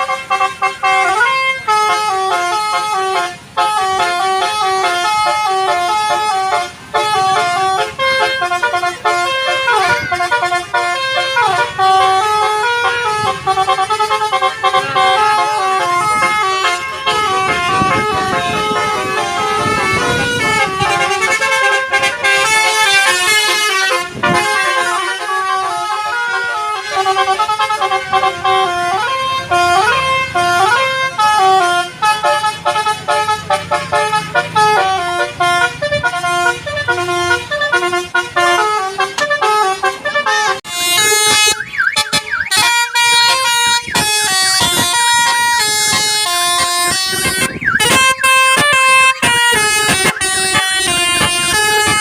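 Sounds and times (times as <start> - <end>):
multi-tone vehicle horn tune: 0.0 - 52.0.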